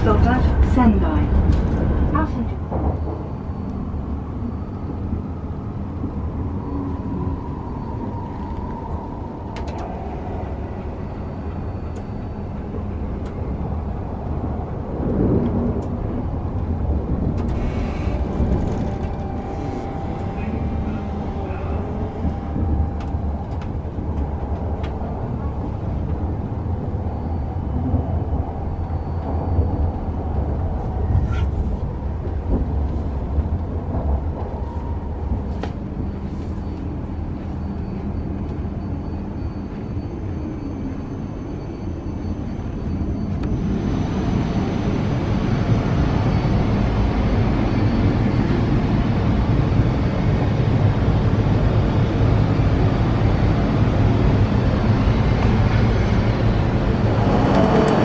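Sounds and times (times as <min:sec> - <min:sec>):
train running heard from inside: 0:00.0 - 0:58.0.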